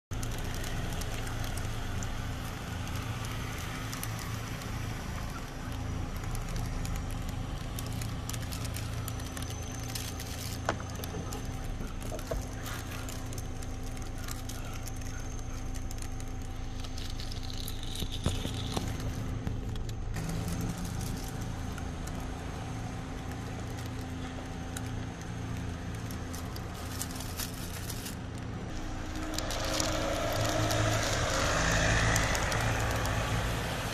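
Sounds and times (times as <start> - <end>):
small clicks and crackles: 0.1 - 33.9.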